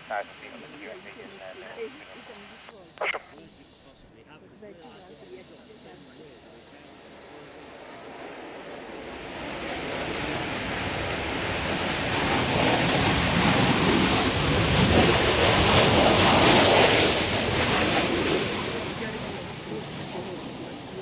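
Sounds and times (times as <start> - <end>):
jet aircraft passing: 0.0 - 21.0.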